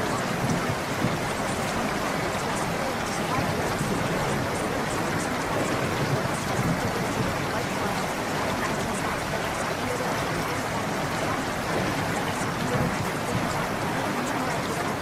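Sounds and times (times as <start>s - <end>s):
faint water drips: 0.0s - 15.0s
running water: 0.0s - 15.0s.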